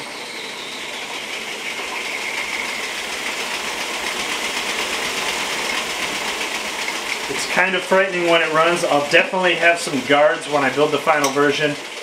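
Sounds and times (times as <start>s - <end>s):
bandsaw whirring with high whine: 0.0s - 12.0s.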